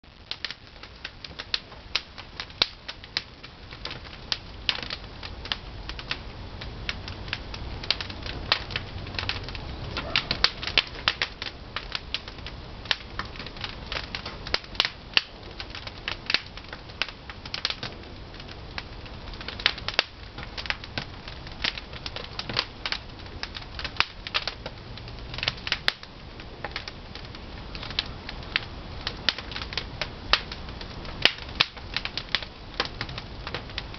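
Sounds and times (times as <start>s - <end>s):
low rush of fire: 0.0s - 33.9s
wood fire crackling and popping: 0.0s - 33.9s.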